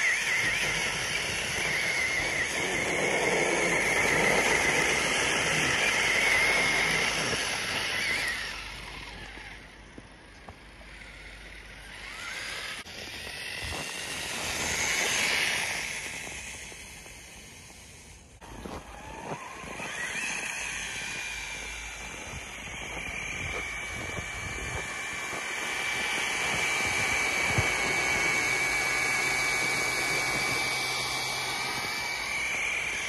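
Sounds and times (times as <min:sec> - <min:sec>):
electric motor whining: 0:00.0 - 0:33.0
tyres churning snow: 0:00.0 - 0:33.0.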